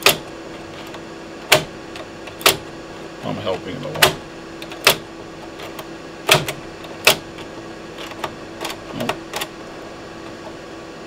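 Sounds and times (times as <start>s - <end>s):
floppy drive mechanical clicks: 0.0s - 10.7s
steady low hum: 0.0s - 11.0s.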